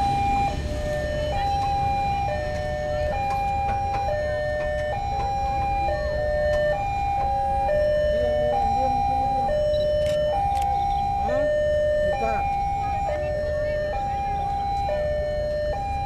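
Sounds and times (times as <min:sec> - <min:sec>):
two-tone crossing alarm: 0:00.0 - 0:16.0.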